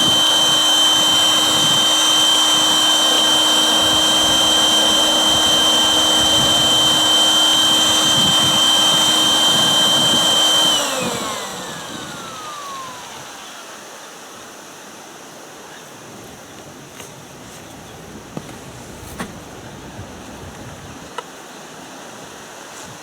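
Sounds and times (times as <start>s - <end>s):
electric air pump whining: 0.0s - 14.1s, 16.2s - 21.1s.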